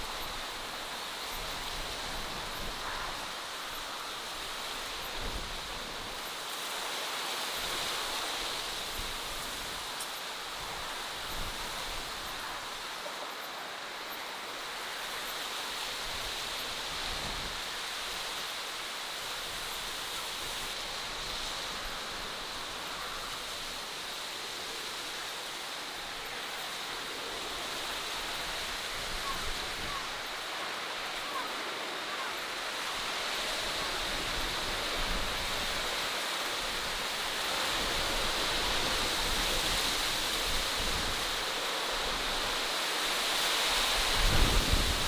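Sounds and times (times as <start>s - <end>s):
even rushing hiss: 0.0s - 45.0s.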